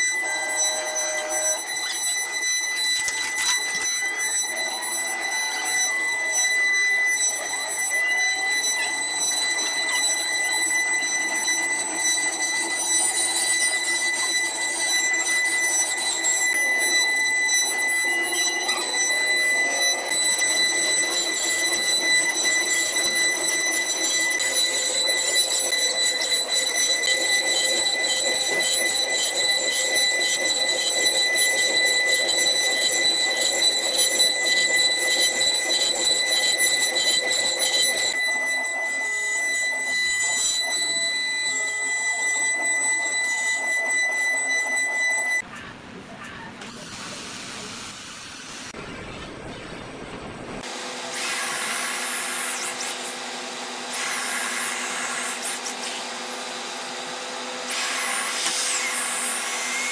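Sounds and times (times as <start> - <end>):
router spindles whining: 0.0 - 45.4, 50.6 - 59.9.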